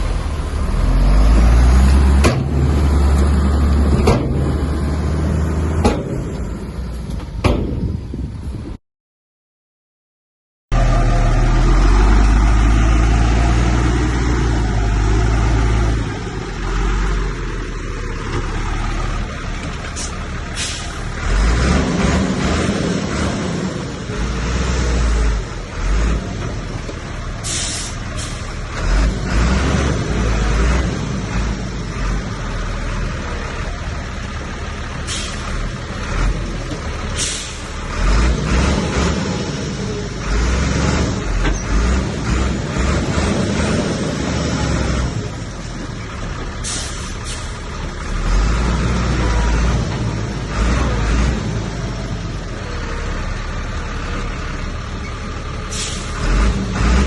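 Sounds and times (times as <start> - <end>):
heavy diesel machinery rumbling: 0.0 - 8.8, 10.7 - 57.0.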